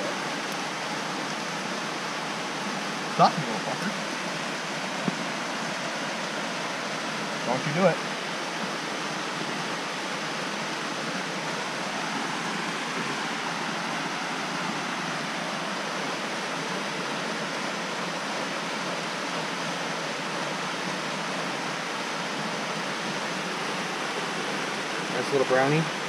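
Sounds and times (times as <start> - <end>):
waterfall rushing over rock: 0.0 - 26.0.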